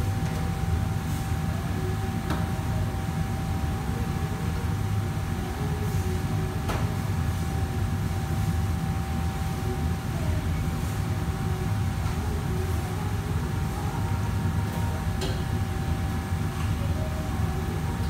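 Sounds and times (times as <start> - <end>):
faint constant whine: 0.0 - 18.0
kitchen exhaust hood rumbling: 0.0 - 18.0.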